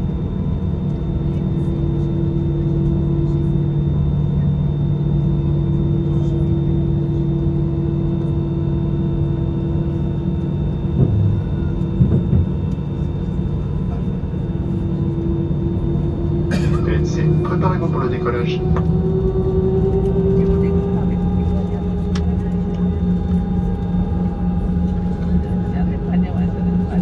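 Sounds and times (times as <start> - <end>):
jet engines idling with whine: 0.0 - 27.0.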